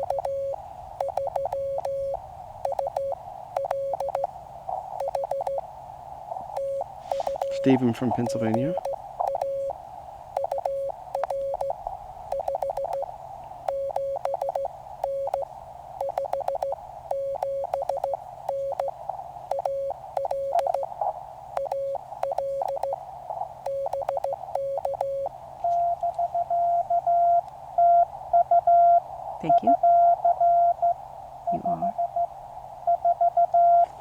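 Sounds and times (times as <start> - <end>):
morse code keyed tone: 0.0 - 4.3, 5.0 - 5.6, 6.5 - 9.8, 10.4 - 13.1, 13.7 - 21.0, 21.6 - 23.0, 23.6 - 32.3, 32.9 - 33.9
radio receiver hiss: 0.0 - 29.5.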